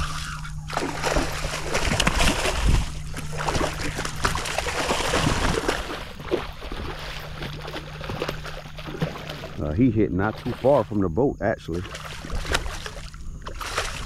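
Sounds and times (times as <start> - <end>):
fish splashing in water: 0.0 - 11.0, 11.7 - 14.0.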